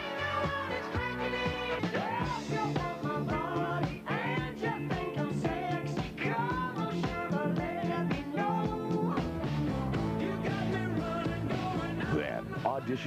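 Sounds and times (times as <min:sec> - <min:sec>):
singer with full band: 0:00.0 - 0:09.5, 0:10.1 - 0:13.0.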